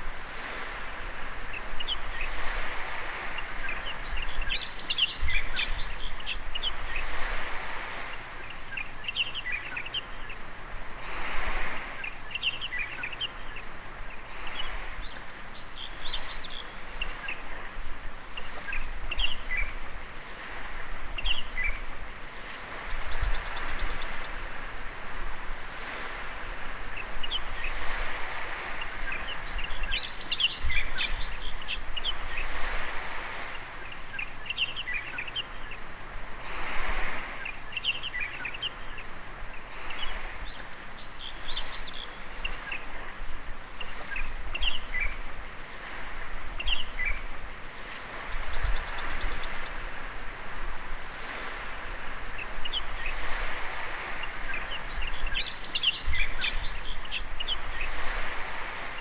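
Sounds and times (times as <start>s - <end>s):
small waves washing on beach: 0.0s - 59.0s
small birds chirping: 0.7s - 10.6s, 11.6s - 25.0s, 25.8s - 36.0s, 36.8s - 45.9s, 46.5s - 50.3s, 51.1s - 59.0s.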